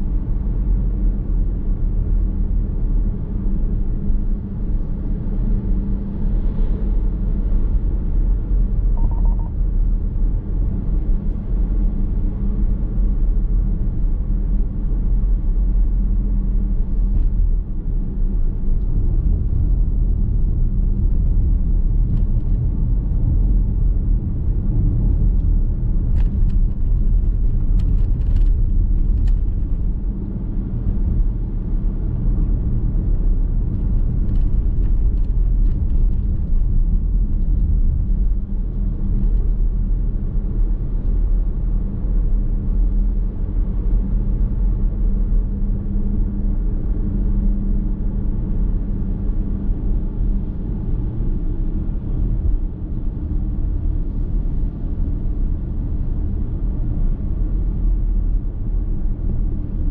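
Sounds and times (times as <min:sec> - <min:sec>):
car road and tyre rumble: 0:00.0 - 0:59.9.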